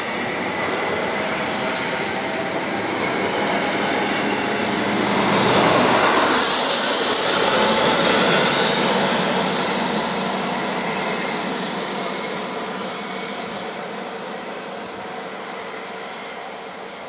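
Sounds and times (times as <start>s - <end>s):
rumbling train wheels: 0.0s - 17.0s.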